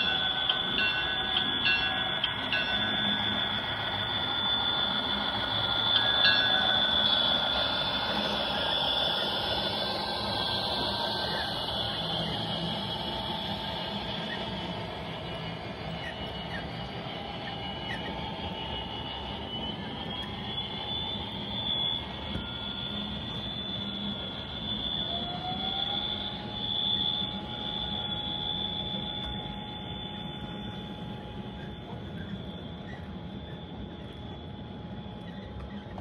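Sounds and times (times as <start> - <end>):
electric motor whine: 0.0 - 32.5
model train wheel noise: 0.0 - 36.0
rising whine: 0.0 - 36.0.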